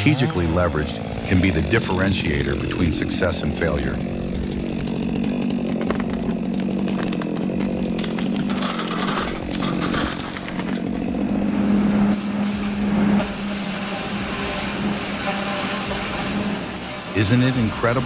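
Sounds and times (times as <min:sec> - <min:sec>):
chainsaw cutting: 0:00.0 - 0:18.0.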